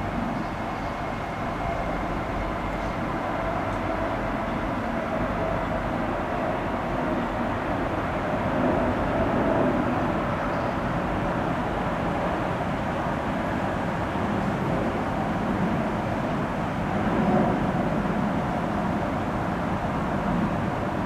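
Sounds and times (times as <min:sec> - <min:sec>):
construction machinery engine drone: 0:00.0 - 0:21.0.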